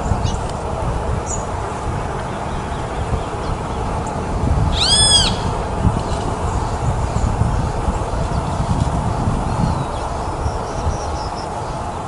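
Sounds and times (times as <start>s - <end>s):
low rumble: 0.0s - 11.9s.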